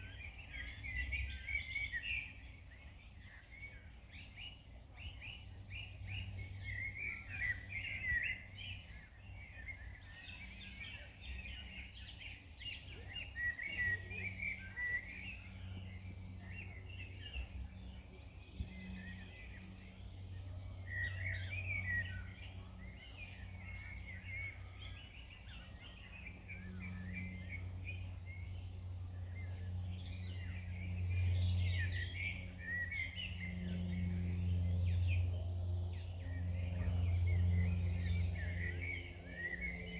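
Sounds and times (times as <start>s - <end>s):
low droning hum: 0.0s - 39.9s
songbirds chirping: 0.0s - 39.9s.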